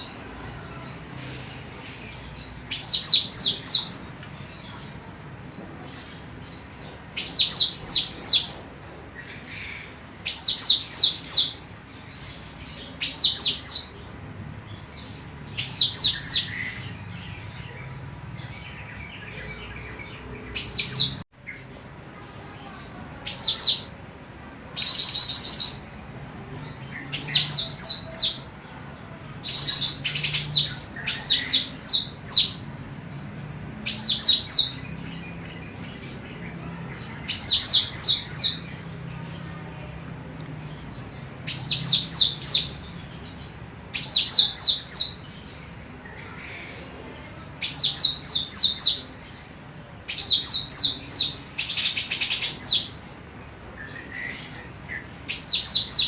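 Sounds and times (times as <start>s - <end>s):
bird chirping high calls: 0.0s - 24.1s, 24.7s - 33.1s, 33.8s - 56.0s.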